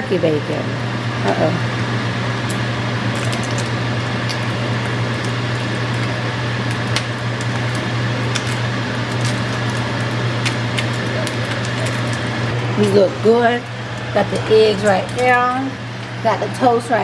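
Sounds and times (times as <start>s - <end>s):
steady low hum: 0.0s - 17.0s
bacon sizzling in a frying pan: 0.9s - 17.0s.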